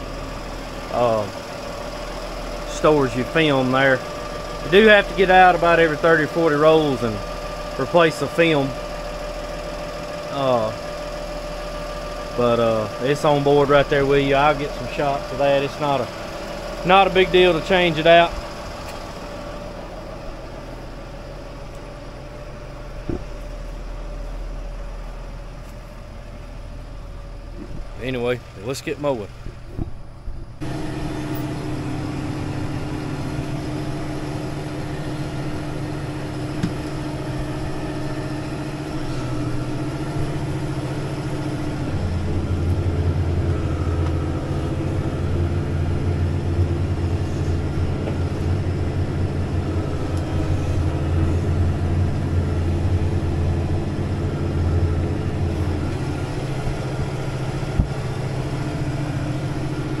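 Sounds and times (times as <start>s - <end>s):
deep machine hum: 0.0s - 60.0s
tractor diesel engine running: 0.0s - 60.0s.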